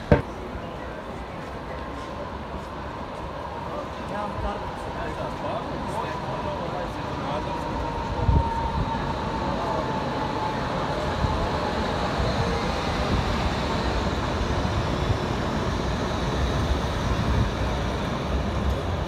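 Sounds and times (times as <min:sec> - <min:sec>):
tram wheels rumbling: 0:00.0 - 0:19.0.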